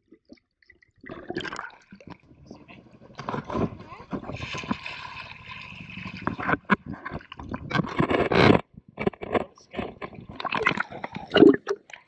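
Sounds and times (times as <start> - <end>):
shallow water splashing: 0.1 - 8.6, 9.3 - 12.0.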